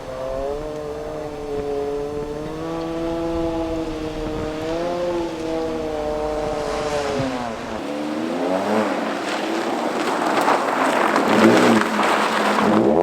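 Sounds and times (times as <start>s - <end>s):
rally car engine revving: 0.0s - 13.0s
tyres rushing on snow: 0.0s - 13.0s.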